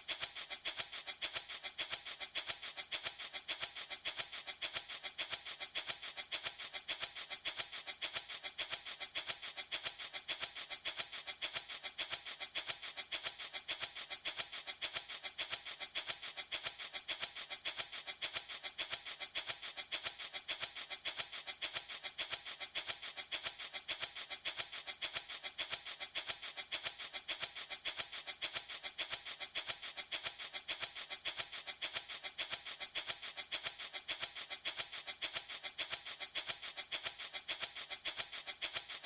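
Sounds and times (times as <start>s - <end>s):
baby rattle shaking: 0.0s - 39.0s.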